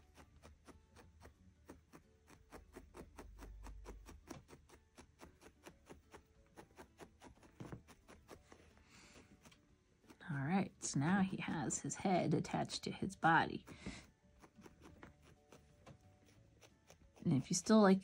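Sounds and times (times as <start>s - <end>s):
felting needle ticking: 0.0s - 18.0s.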